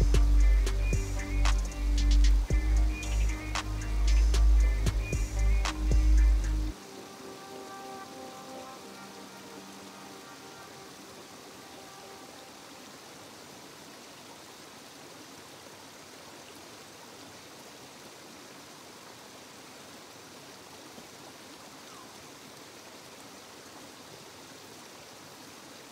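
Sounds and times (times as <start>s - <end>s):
faint rushing water: 0.0s - 25.9s.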